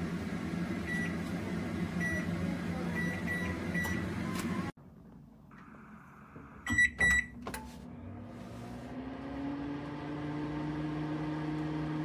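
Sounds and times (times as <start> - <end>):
microwave oven humming: 0.0 - 4.8, 5.5 - 12.0.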